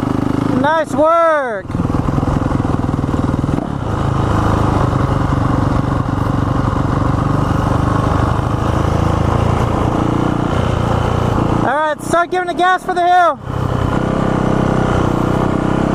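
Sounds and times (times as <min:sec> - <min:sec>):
dirt bike engine running: 0:00.0 - 0:15.9.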